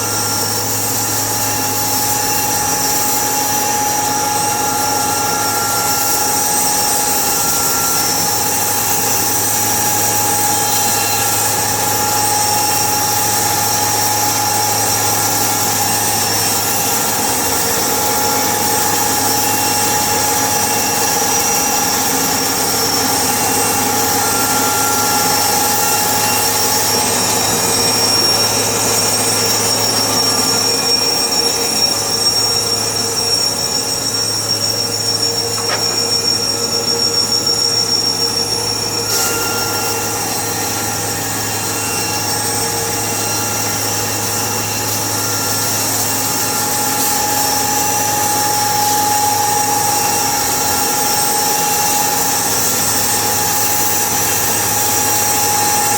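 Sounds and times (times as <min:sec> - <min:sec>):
high machine whine: 0:00.0 - 0:55.9
sawmill machinery drone: 0:00.0 - 0:55.9.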